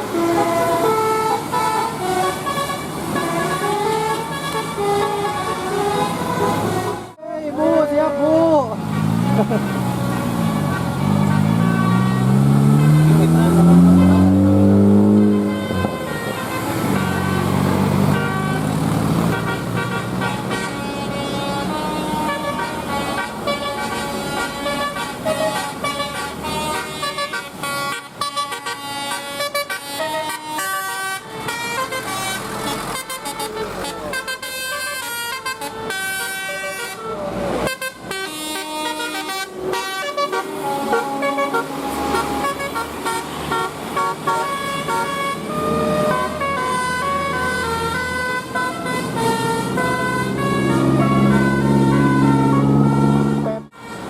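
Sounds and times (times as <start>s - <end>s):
multi-tone bus horn melody: 0.0s - 54.0s.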